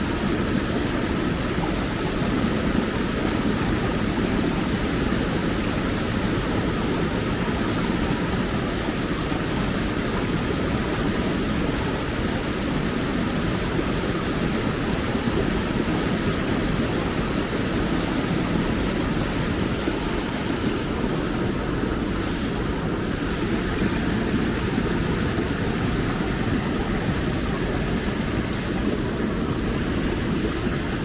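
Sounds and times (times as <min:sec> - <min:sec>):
water rushing over rocks: 0:00.5 - 0:31.0.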